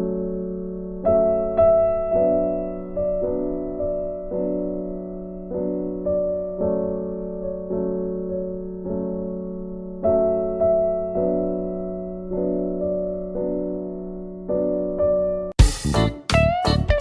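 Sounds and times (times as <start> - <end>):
gentle piano chords: 0.0 - 17.0.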